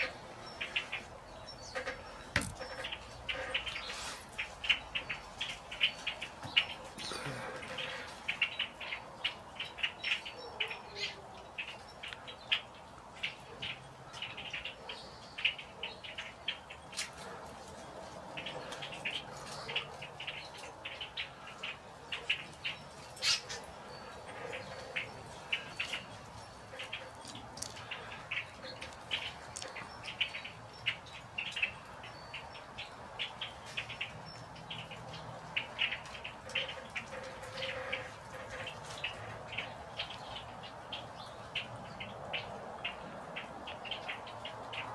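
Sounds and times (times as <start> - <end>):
blackbirds calling: 0.0 - 44.9.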